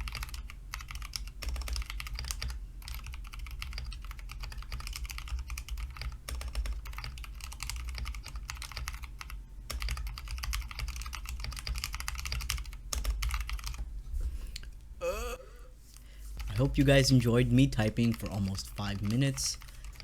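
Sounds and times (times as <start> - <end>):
mechanical keyboard typing: 0.0 - 13.8, 17.8 - 20.0.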